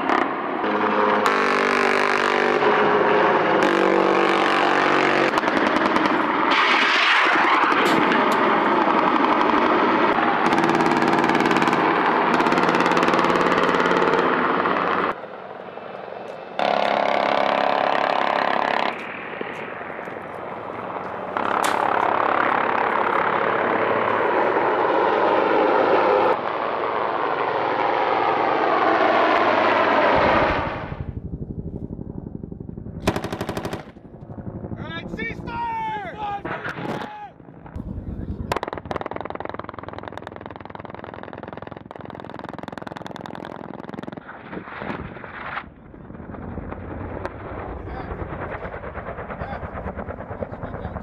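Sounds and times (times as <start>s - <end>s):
helicopter engine and rotor drone: 7.6s - 44.3s, 45.8s - 51.0s.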